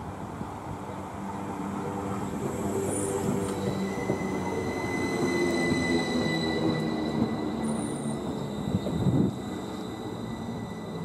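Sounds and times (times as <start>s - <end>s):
train high-pitched whine: 0.0s - 11.0s
train wheels rumbling on rail: 0.0s - 11.0s.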